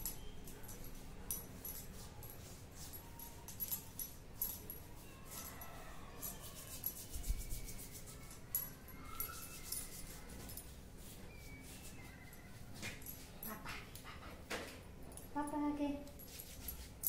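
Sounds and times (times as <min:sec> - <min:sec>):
bangles jingling: 0:00.0 - 0:14.1, 0:14.9 - 0:17.0.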